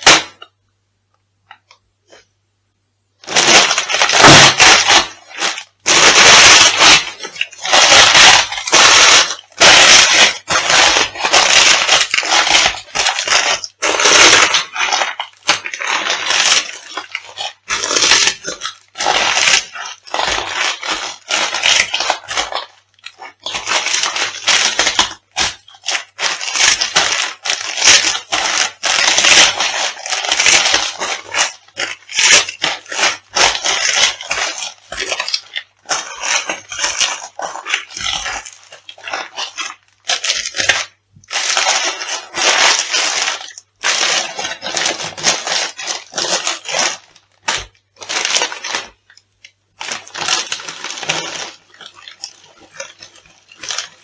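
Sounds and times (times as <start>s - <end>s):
food crunching underfoot: 3.2s - 54.0s.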